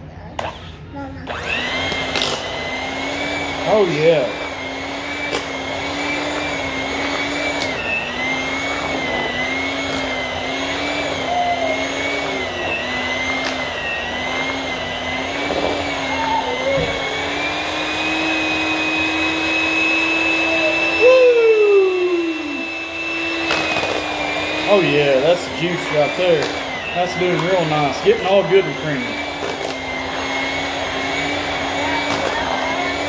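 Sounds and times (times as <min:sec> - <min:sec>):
electric hand mixer whirring: 0:00.0 - 0:33.0.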